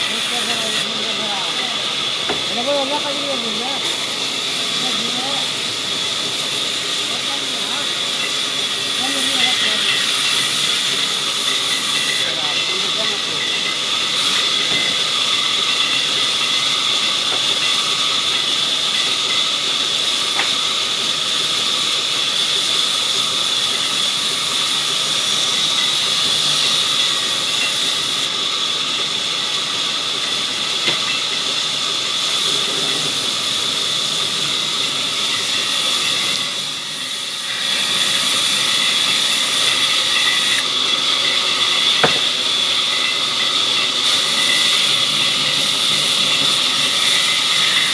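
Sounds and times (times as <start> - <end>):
sawmill saw whining: 0.0 - 47.9.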